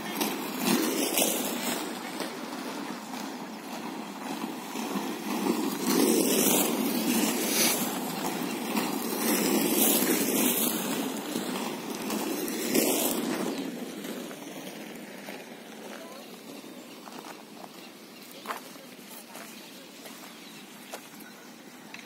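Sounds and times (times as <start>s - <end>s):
skate wheels rolling on asphalt: 0.0s - 22.0s.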